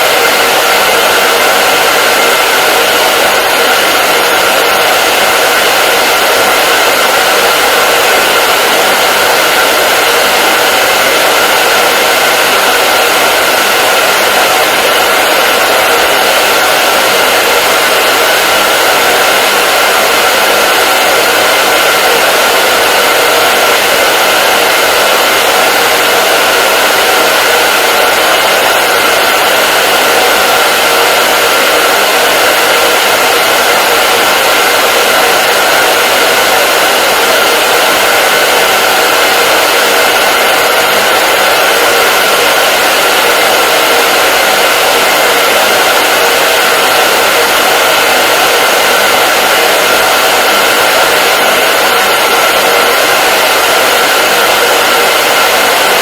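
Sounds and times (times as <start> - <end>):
hair dryer blowing air: 0.0 - 56.0.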